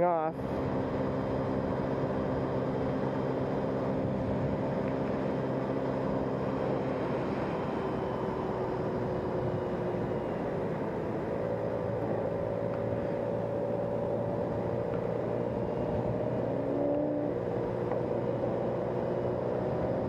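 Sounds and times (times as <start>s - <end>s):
faint steady tones: 0.0s - 20.0s
vehicle road noise hum: 0.0s - 20.0s.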